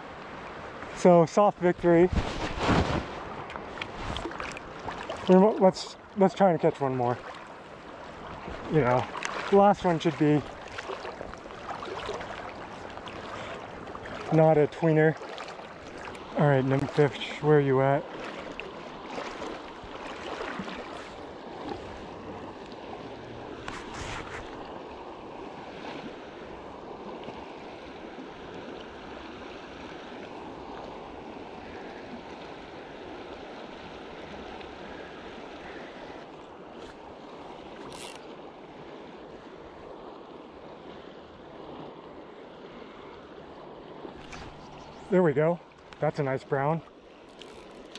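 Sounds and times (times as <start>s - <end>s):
shallow river current rushing: 0.0s - 47.9s.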